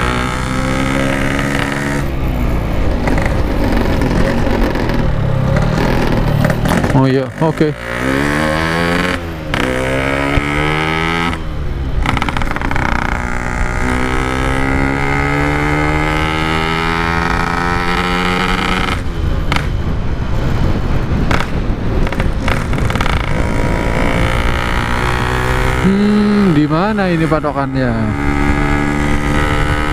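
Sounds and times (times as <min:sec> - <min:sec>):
motorcycle accelerating through gears: 0:00.0 - 0:29.9.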